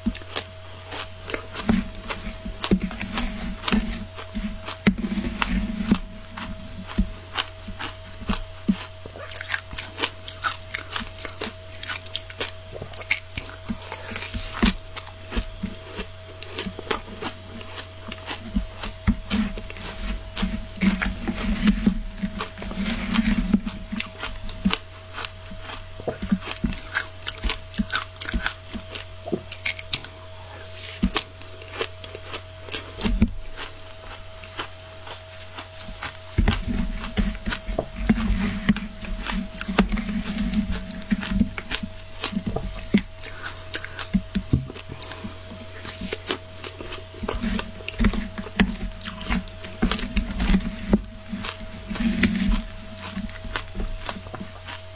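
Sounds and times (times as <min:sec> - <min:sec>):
crunching and chewing shaved ice: 0:00.0 - 0:54.9
steady hum: 0:00.0 - 0:54.9.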